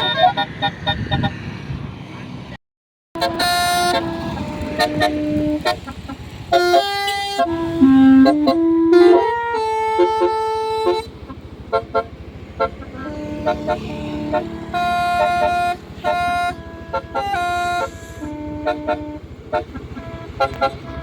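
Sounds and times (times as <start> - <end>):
multi-tone bus air horn: 0.0 - 1.4, 3.2 - 21.0
diesel engine rumble: 3.2 - 21.0.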